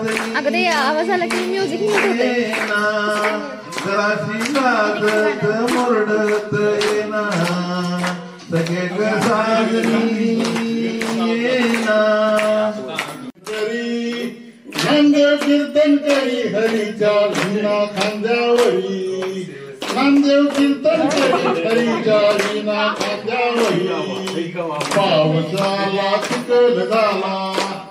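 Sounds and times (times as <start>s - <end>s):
group clapping along: 0.0s - 27.9s
man singing into microphone: 0.0s - 27.9s.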